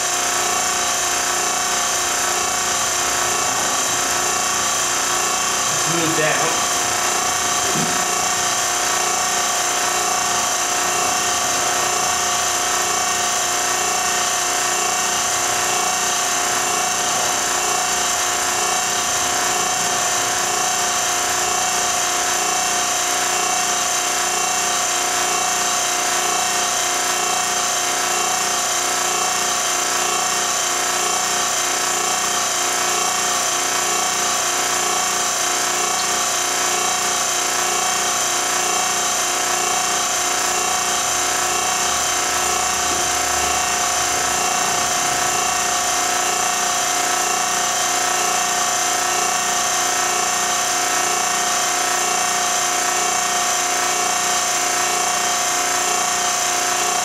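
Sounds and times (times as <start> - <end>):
machine whine: 0.0 - 57.0.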